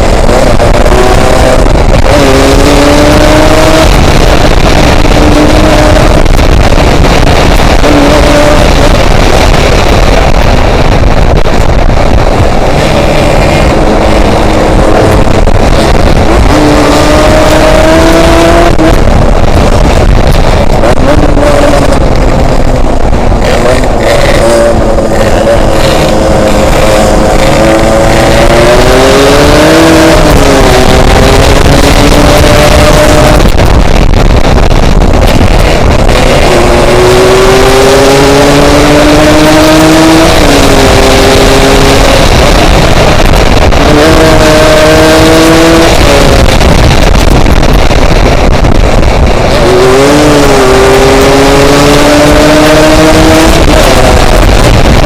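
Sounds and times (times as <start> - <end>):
motorcycle engine revving: 0.0 - 55.0
wind buffeting microphone: 0.0 - 55.0.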